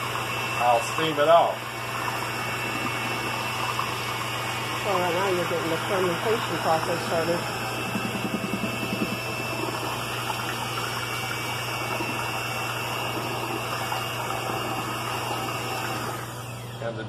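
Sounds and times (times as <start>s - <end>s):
blades churning wet mash: 0.0s - 16.6s
electric mixer whining: 0.0s - 17.0s.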